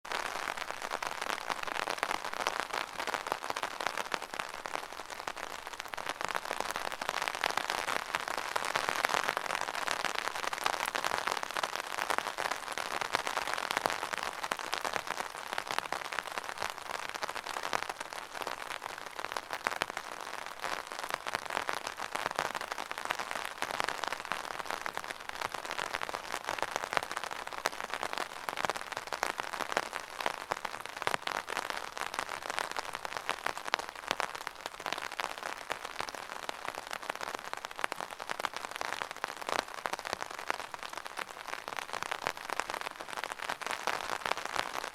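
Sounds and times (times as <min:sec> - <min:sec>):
rain pattering on an umbrella: 0:00.0 - 0:44.9.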